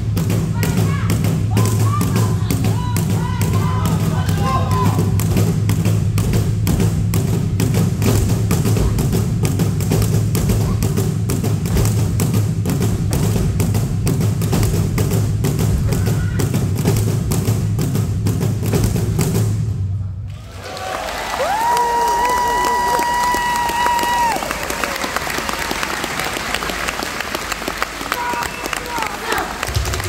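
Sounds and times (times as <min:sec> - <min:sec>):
percussion-driven dance music: 0:00.0 - 0:19.8, 0:21.4 - 0:30.0.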